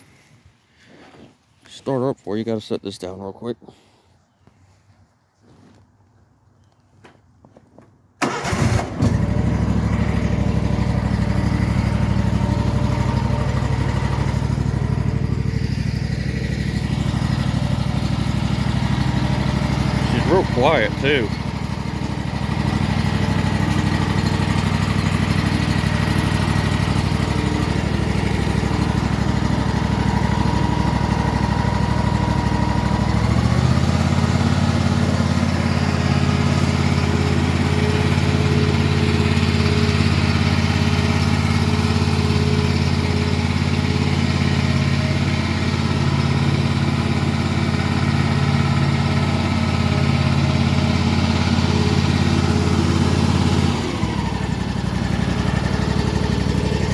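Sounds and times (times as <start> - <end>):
lawn mower engine running: 8.2 - 56.9.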